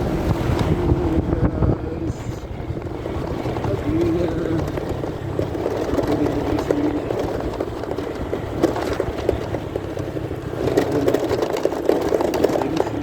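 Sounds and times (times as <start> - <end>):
muffled motorcycle engine rumble: 0.0 - 13.0.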